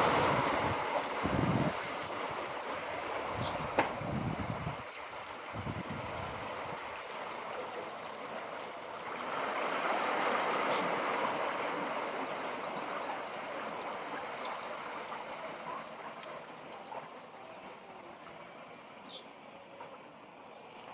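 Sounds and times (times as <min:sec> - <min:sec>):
sea water washing against shore: 0:00.0 - 0:19.0.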